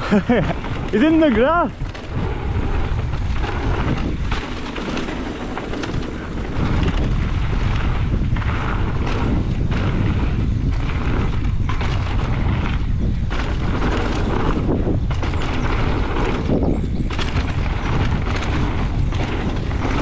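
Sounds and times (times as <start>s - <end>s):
bike tyres on dirt trail: 0.0s - 20.0s
wind buffeting microphone: 0.0s - 20.0s
bike knocks and rattles: 0.1s - 20.0s.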